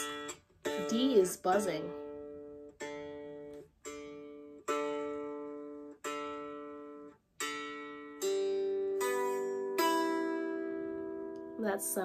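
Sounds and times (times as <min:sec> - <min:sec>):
ukulele chords strummed: 0:00.0 - 0:12.0.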